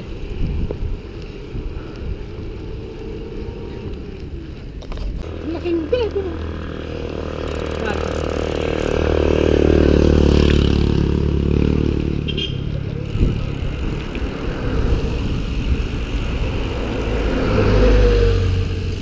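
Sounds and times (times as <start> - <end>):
wind buffeting microphone: 0.0 - 11.1, 13.0 - 19.0
vehicle passing: 0.0 - 19.0
jeepney engine passing: 2.5 - 19.0.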